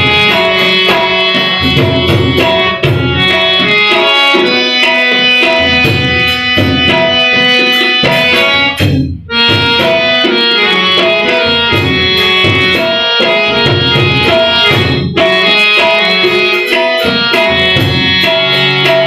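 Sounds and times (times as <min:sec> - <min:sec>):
harmonium melody: 0:00.0 - 0:19.0
tabla beat: 0:00.0 - 0:19.0.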